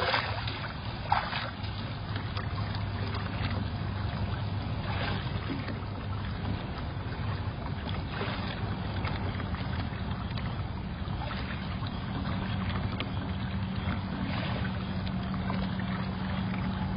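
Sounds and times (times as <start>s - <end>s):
steady low hum: 0.0s - 16.9s
water sloshing and lapping: 0.0s - 16.9s.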